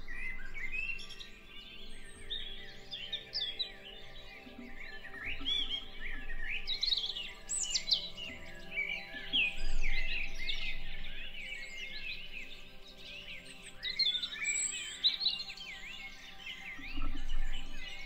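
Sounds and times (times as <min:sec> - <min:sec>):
songbirds singing and calling: 0:00.0 - 0:18.0.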